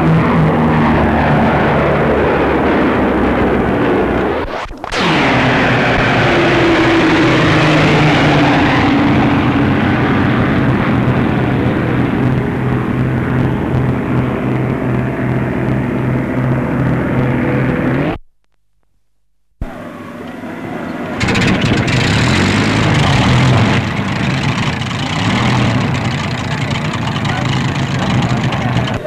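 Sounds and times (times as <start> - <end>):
propeller plane engines droning: 0.0 - 18.2, 19.6 - 29.0.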